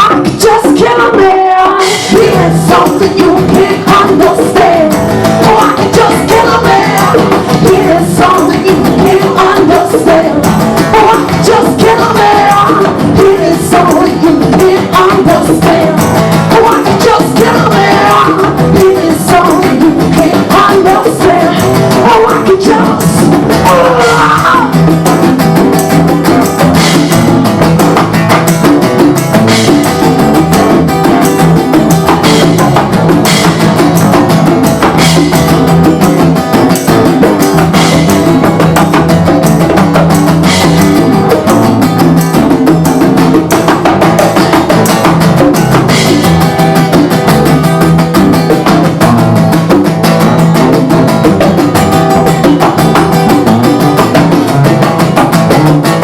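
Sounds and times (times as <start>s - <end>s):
hand drums and percussion: 0.0s - 56.0s.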